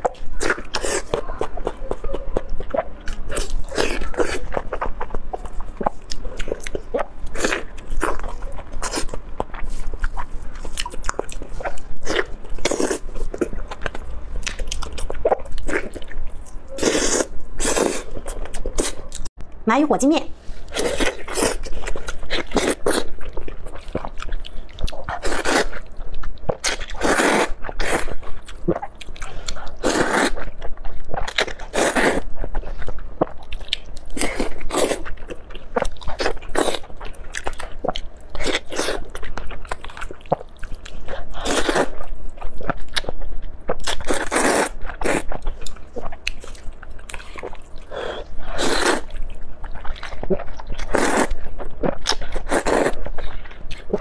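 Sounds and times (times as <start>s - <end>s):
noodle eating and chewing: 0.0s - 19.4s, 20.4s - 54.0s.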